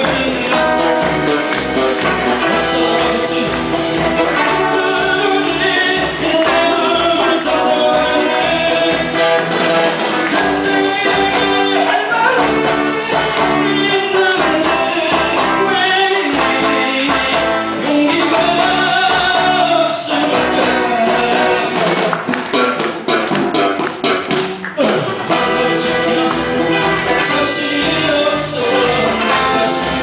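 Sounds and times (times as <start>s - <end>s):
person singing: 0.0s - 22.2s, 24.1s - 30.0s
live band playing pop song: 0.0s - 30.0s.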